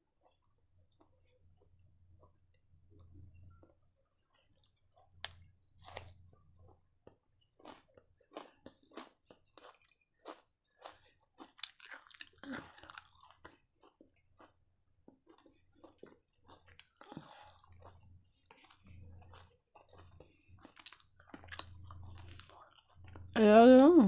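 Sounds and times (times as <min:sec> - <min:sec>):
chewing crisp raw onion: 0:03.0 - 0:23.4.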